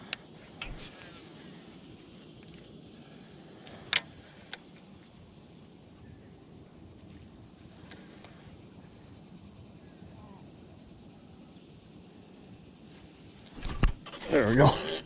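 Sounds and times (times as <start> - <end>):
high pulsing insect chirping: 0.0 - 15.0.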